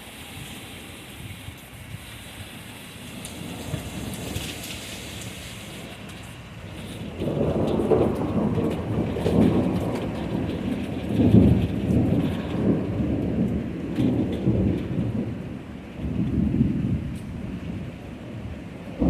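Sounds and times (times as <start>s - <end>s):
rain falling: 0.0s - 19.0s
thunder rumbling: 2.8s - 19.0s.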